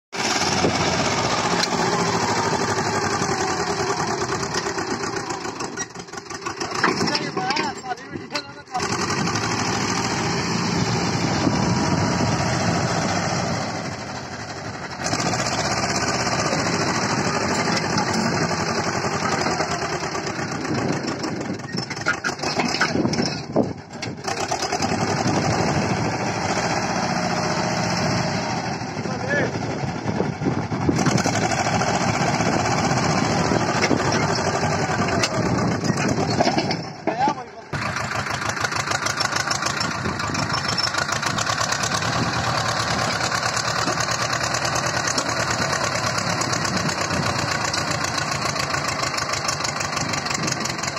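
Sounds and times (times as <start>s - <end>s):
tractor diesel engine labouring: 0.1s - 50.9s.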